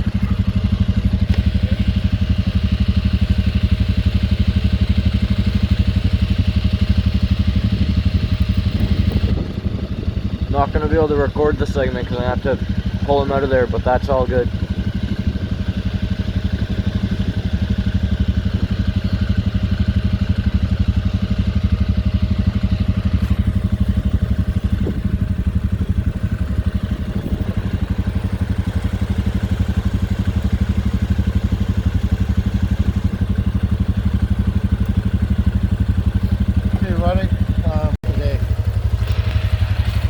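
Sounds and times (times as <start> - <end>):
atv engine idling: 0.0 - 40.0.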